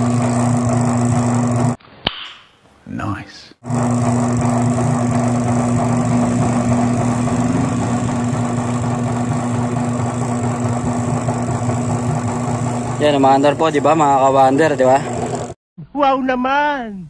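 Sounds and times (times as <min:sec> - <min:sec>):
washing machine motor hum: 0:00.0 - 0:01.8, 0:03.6 - 0:15.6.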